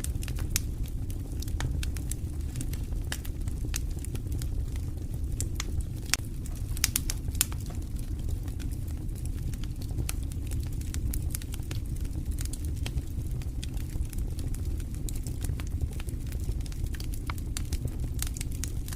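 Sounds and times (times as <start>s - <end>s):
campfire crackles and pops: 0.0s - 18.9s
low rumble of flames: 0.0s - 18.9s.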